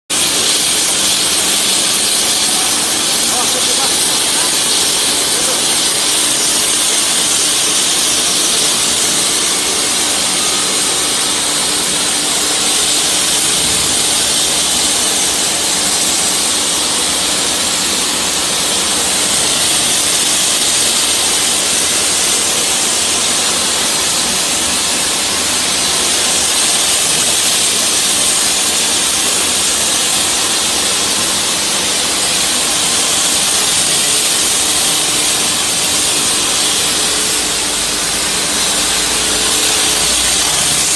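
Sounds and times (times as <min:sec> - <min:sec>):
machine hum: 0:00.1 - 0:26.5, 0:32.6 - 0:40.9
torch flame hissing: 0:00.1 - 0:40.9.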